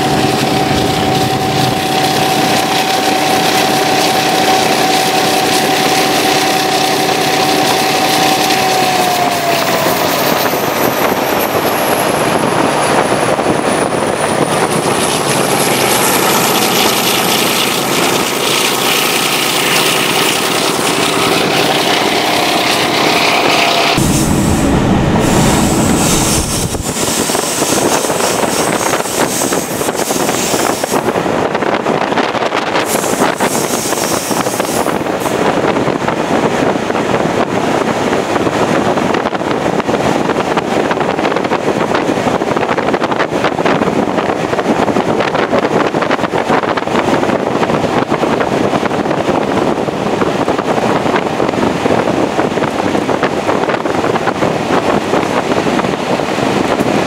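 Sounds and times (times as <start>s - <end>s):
train running noise: 0.0s - 57.0s
wind rushing over microphone: 0.0s - 57.0s.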